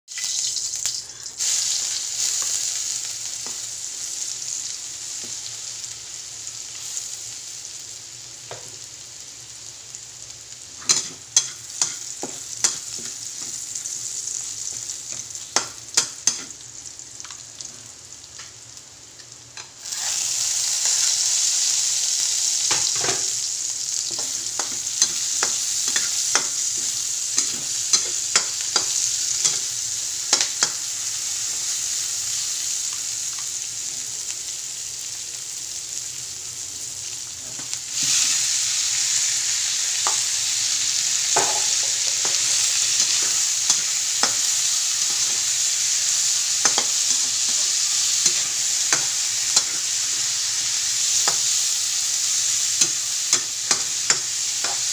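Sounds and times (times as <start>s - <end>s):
garlic sizzling in hot oil: 0.1s - 54.9s.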